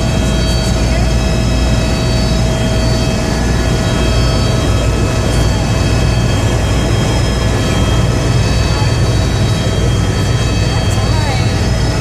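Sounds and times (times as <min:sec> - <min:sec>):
helicopter cabin drone: 0:00.0 - 0:12.0
high whining tones: 0:00.0 - 0:12.0.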